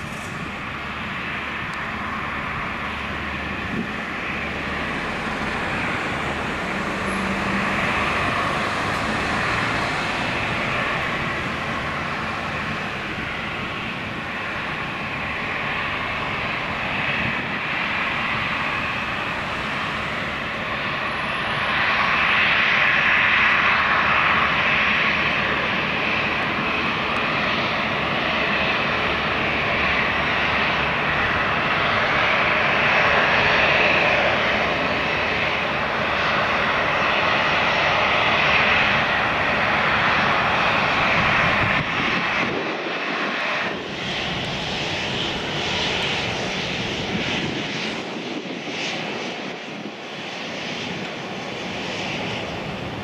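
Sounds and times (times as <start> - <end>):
business jet on runway: 0.0 - 53.0
jet engines at taxi power: 0.0 - 53.0.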